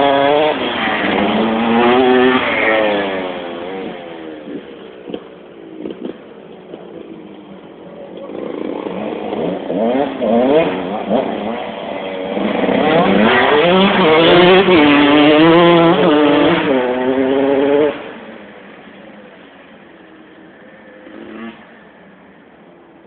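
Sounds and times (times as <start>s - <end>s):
motocross bike revving past: 0.0s - 7.4s, 8.2s - 19.4s, 20.4s - 21.9s.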